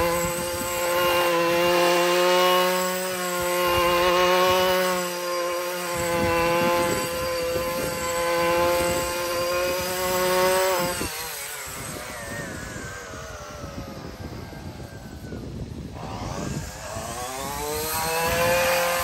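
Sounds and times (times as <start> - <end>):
brushcutter engine running: 0.0 - 19.0.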